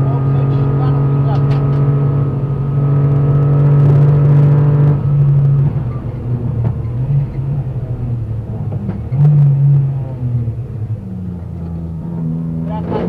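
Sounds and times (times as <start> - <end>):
car engine pulling hard: 0.0 - 13.0.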